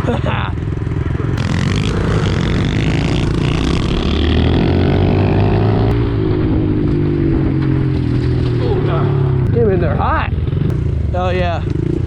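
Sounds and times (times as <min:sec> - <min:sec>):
motorbike engine accelerating: 0:00.7 - 0:12.0.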